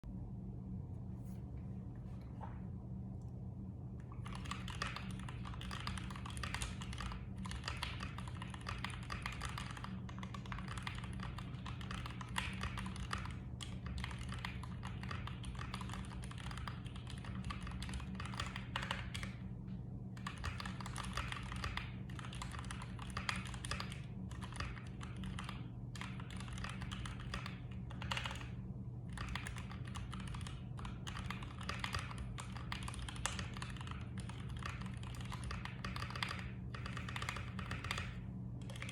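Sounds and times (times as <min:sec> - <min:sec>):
steady low hum: 0:00.0 - 0:38.9
mechanical keyboard typing: 0:04.1 - 0:19.4, 0:20.2 - 0:38.9.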